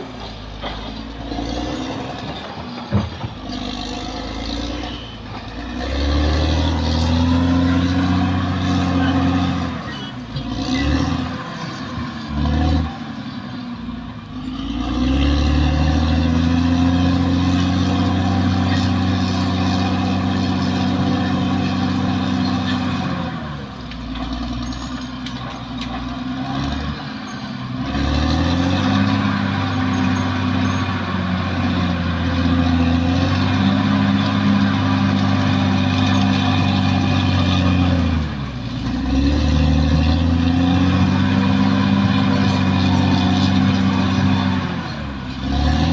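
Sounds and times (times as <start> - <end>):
bulldozer diesel engine revving: 0.0 - 45.9.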